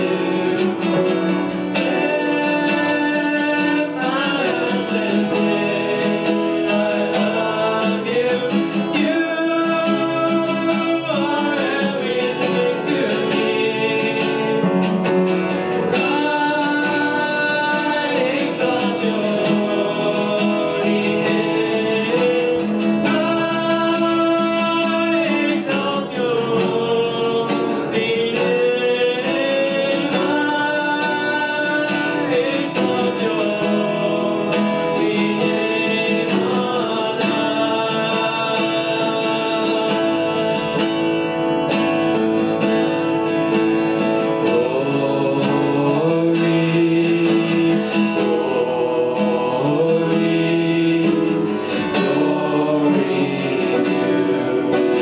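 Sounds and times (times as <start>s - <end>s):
acoustic guitar strumming: 0.0s - 55.0s
man singing into a microphone: 0.0s - 55.0s
other instruments: 0.0s - 55.0s.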